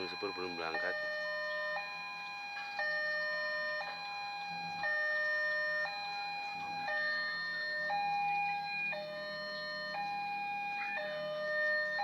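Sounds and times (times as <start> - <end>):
level crossing alarm chimes: 0.0 - 12.0.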